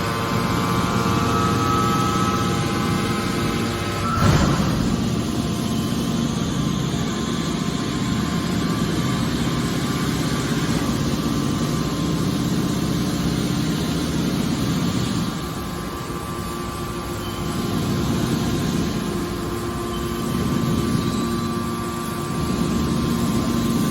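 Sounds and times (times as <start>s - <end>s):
hydraulic baler machine drone: 0.0s - 23.9s.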